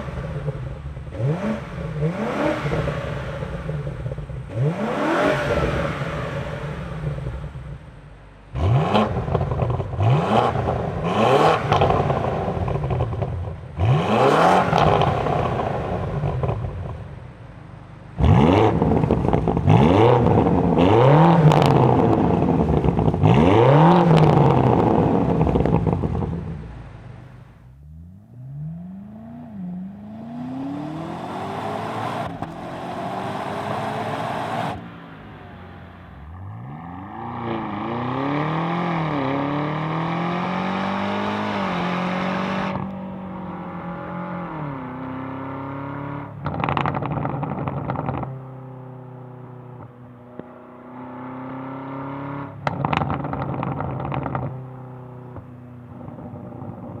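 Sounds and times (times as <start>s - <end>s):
car exhaust revving: 0.0s - 17.5s, 18.1s - 57.0s
exhaust crackling: 0.0s - 51.0s, 52.3s - 57.0s.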